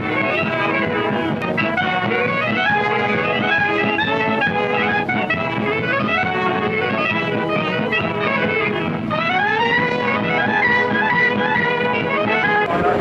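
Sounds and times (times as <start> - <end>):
brass and clarinet band melody: 0.0 - 13.0.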